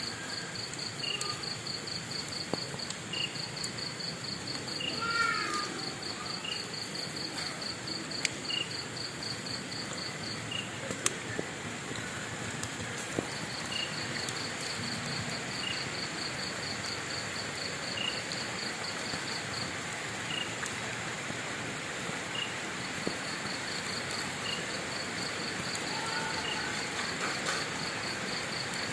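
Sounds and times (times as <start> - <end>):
crackling wood fire: 0.0 - 28.9
crickets chirping: 0.0 - 28.9.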